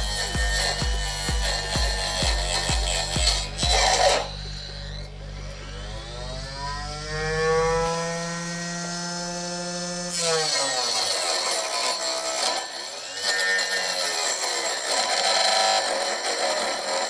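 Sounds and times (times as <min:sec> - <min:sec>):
saw cutting wood: 0:00.0 - 0:17.0
table saw blade whine: 0:00.0 - 0:17.0.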